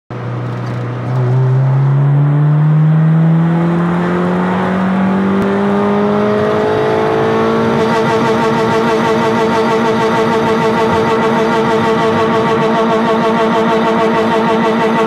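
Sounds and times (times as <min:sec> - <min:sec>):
car engine accelerating hard: 0:00.1 - 0:15.0.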